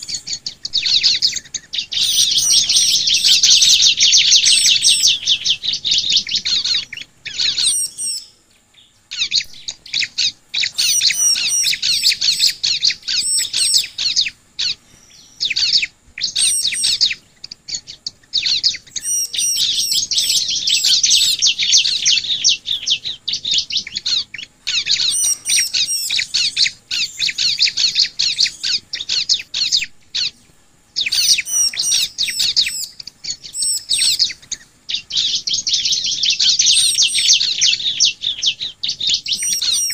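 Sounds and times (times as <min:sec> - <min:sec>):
bird singing high-pitched chirps: 0:00.0 - 0:39.9.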